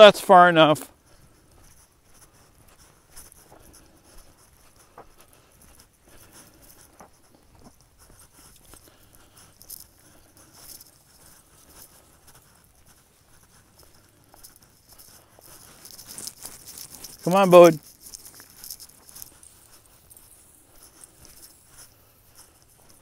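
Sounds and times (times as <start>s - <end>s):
footsteps crunching dry grass: 0.0s - 23.0s.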